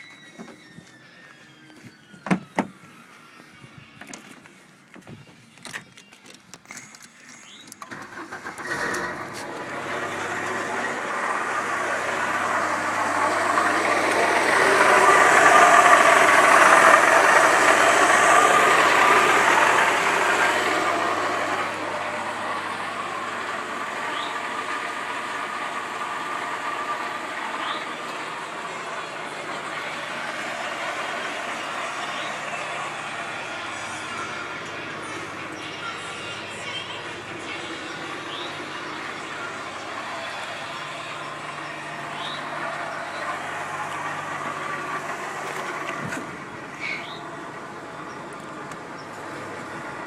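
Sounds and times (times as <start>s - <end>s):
car engine running: 6.7s - 50.0s.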